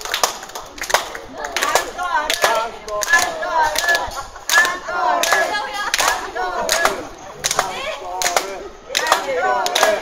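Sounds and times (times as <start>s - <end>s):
rhythmic clapping: 0.0s - 10.0s
audience chanting in unison: 1.3s - 10.0s.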